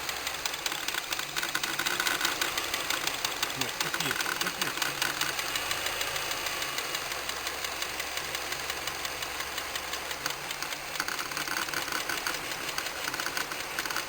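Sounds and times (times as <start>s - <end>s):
car engine idling: 0.0s - 14.0s
rapid engine knock: 0.0s - 14.0s.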